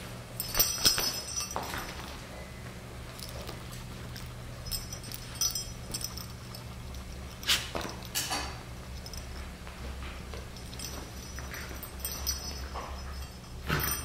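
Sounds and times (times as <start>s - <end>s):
steady low hum: 0.0s - 14.0s
dog rummaging rustles and clinks: 0.4s - 2.3s, 3.0s - 14.0s.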